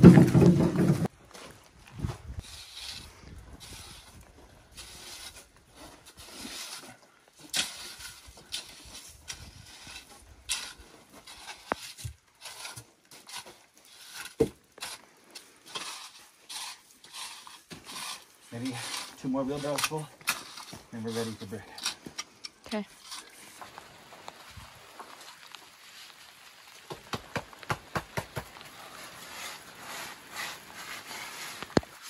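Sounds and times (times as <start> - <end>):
rake scraping dirt: 0.0 - 32.0.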